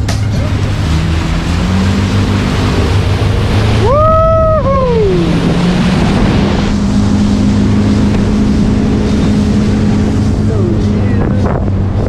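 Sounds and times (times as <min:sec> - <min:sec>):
motorboat engine humming: 0:00.0 - 0:12.0
water rushing: 0:00.0 - 0:12.0
wind noise on microphone: 0:00.6 - 0:12.0.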